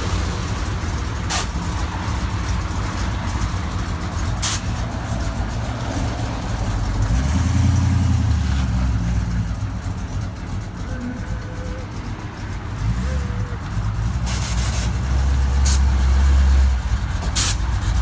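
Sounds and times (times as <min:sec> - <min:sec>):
pickup truck engine idling: 0:00.0 - 0:07.2, 0:07.8 - 0:15.8.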